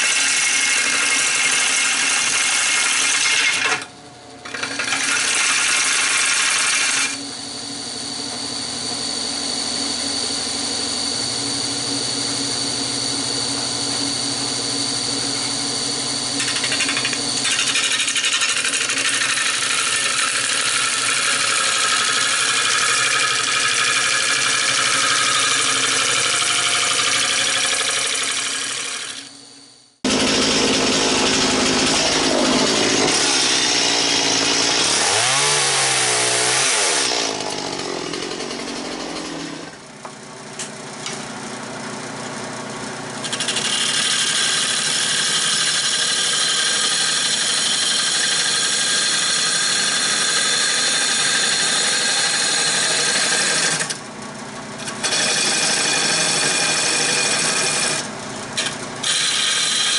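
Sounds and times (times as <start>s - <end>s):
lathe motor hum: 0.0s - 40.2s, 41.0s - 59.9s.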